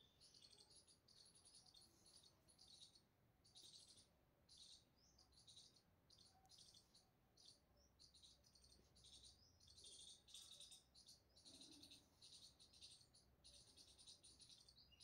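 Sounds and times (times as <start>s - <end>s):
faint high-pitched chirping: 0.0s - 15.0s.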